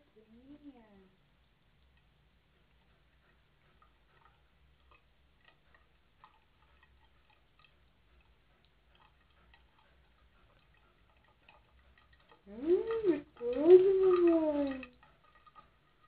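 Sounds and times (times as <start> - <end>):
cat lapping water: 1.2 - 16.0
tap water stream: 1.3 - 16.0.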